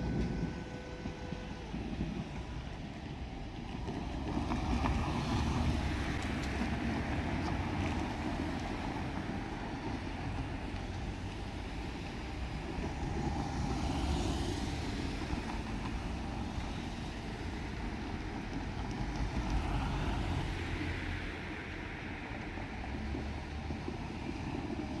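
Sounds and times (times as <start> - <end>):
diesel train rumbling past: 0.0 - 25.0.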